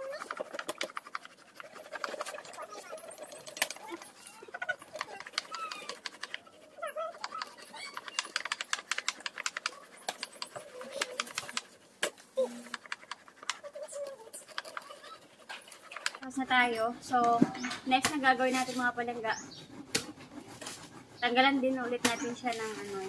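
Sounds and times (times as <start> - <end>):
grating on metal graters: 0.0 - 23.0.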